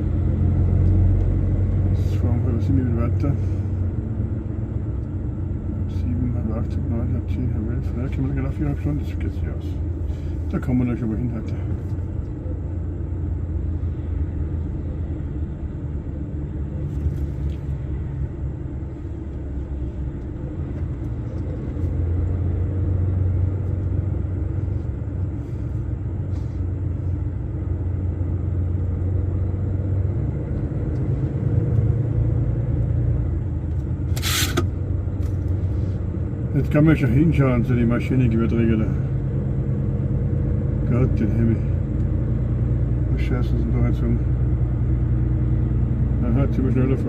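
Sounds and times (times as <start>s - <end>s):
road noise: 0.0s - 47.0s
truck engine drone: 0.0s - 47.0s.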